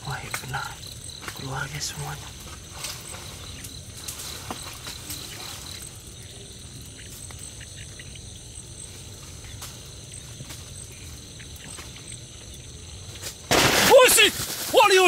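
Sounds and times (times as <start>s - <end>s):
night insects trilling: 0.0s - 15.0s
pulsing insect chirp: 0.0s - 15.0s.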